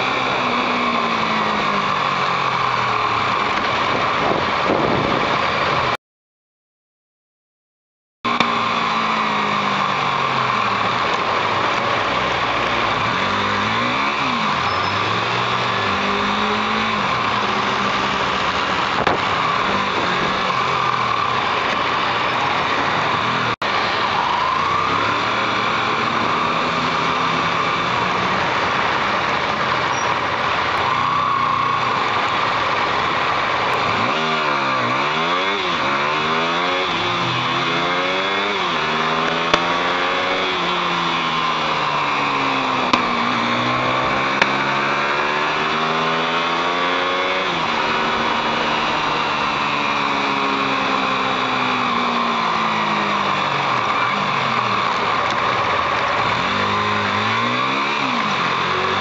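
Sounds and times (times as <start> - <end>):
motorcycle engine accelerating: 0.0 - 6.0, 8.3 - 59.0
wind and road noise: 0.0 - 6.0, 8.3 - 59.0.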